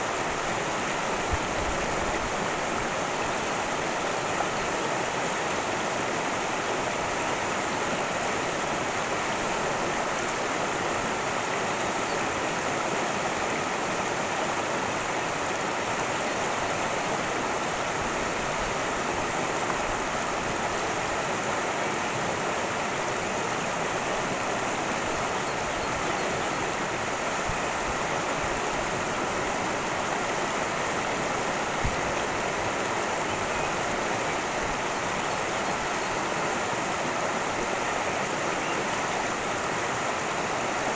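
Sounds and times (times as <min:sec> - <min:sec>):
stream of water rushing: 0:00.0 - 0:40.9.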